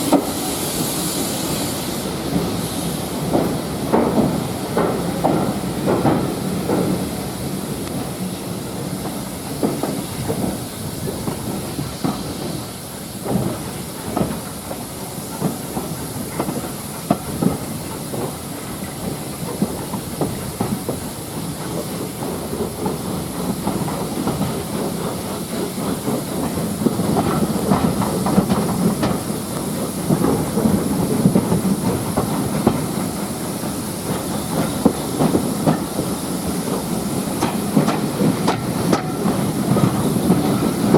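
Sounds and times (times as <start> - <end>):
steam hissing: 0.0 - 40.9
train wheels clicking on track: 0.0 - 40.9.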